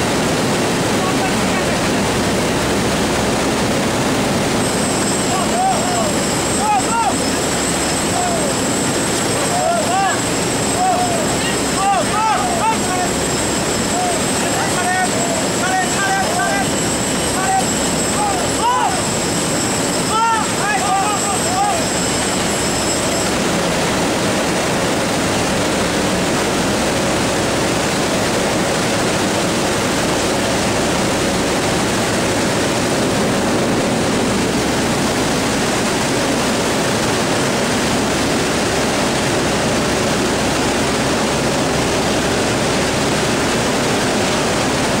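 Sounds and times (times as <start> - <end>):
turboprop engine noise: 0.0 - 45.0.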